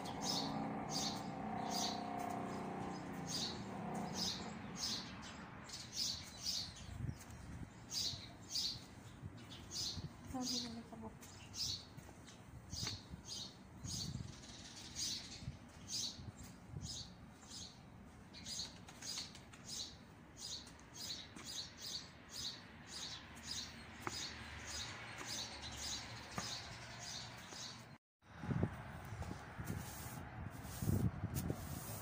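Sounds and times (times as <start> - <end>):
small bird chirping: 0.0 - 28.0.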